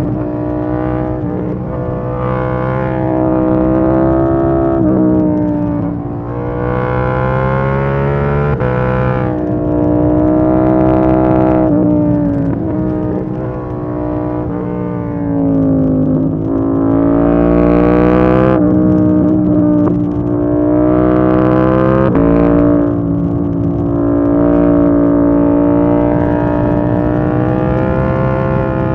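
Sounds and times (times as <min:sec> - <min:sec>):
motorcycle engine riding: 0:00.0 - 0:28.9.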